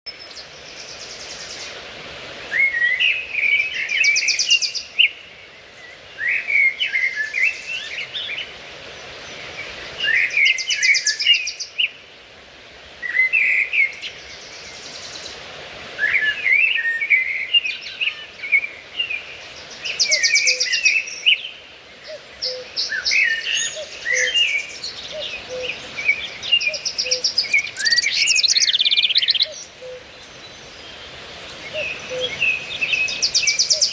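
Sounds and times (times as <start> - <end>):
songbirds chirping and trilling: 0.1 - 33.9.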